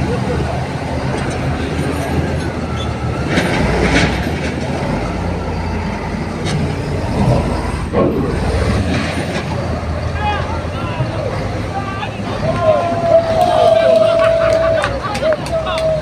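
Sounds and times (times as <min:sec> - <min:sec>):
diesel machinery engine droning: 0:00.0 - 0:16.0.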